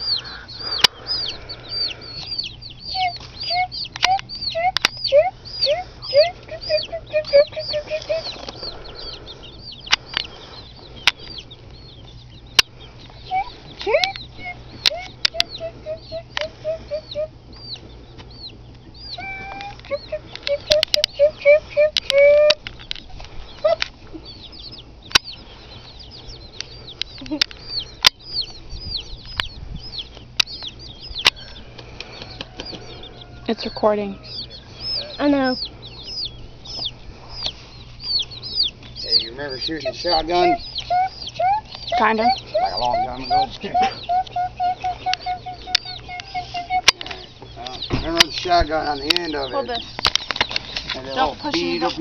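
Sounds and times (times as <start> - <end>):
chickens chirping: 0.0 - 52.0
chickens clucking: 0.0 - 52.0.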